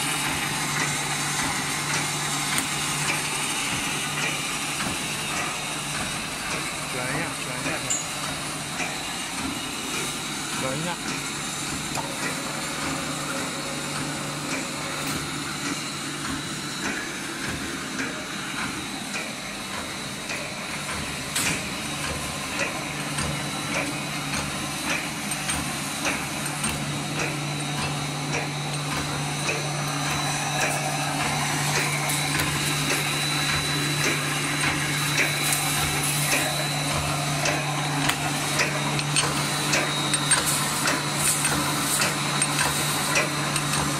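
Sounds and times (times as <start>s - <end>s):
motor hum: 0.0s - 43.9s
machine clacking strokes: 0.1s - 43.9s.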